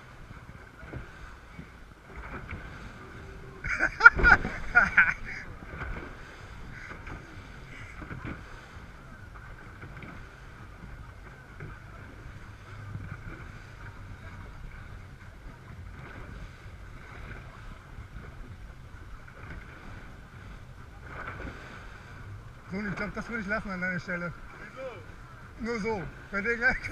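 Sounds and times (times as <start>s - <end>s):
wind on microphone: 0.0s - 23.2s
outboard motors rumbling: 0.0s - 26.9s
water along hull: 0.0s - 26.9s.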